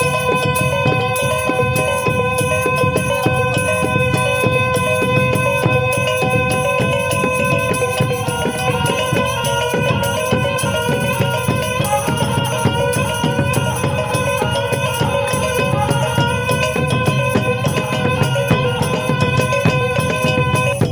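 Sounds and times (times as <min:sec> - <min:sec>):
gong-chimes: 0:00.0 - 0:20.9
percussion in fast rhythm: 0:00.0 - 0:20.9
reed pipe melody: 0:00.0 - 0:20.9.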